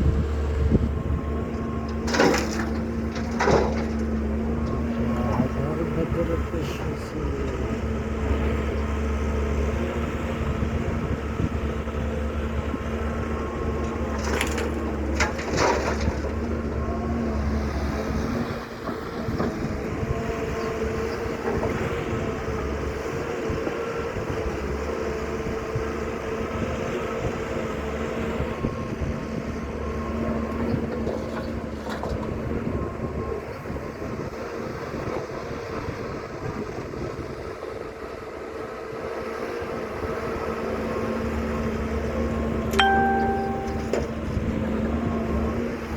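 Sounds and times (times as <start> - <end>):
excavator engine drone: 0.0 - 45.9.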